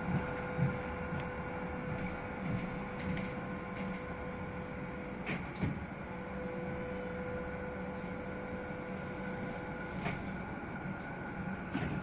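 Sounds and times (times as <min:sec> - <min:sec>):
tram running hum and rumble: 0:00.0 - 0:12.0.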